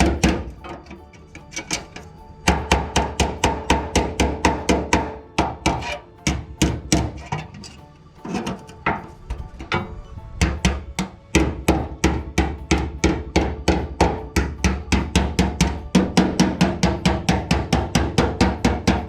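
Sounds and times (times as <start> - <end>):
hammer striking sheet steel: 0.0 - 9.2, 10.4 - 19.0.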